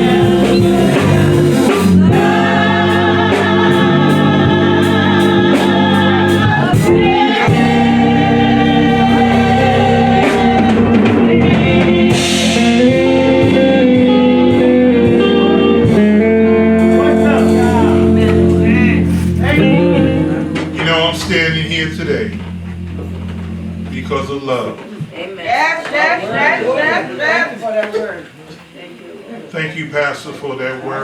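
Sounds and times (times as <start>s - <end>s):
steady drum beat: 0.0s - 24.8s
gospel music with singing: 0.0s - 28.8s.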